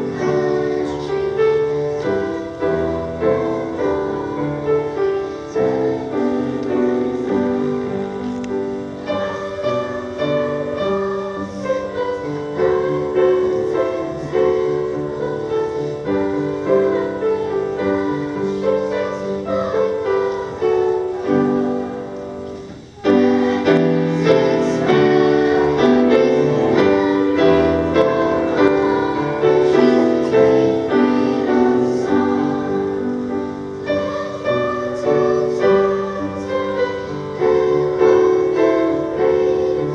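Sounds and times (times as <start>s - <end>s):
piano music: 0.0s - 39.9s
voices singing: 0.0s - 39.9s.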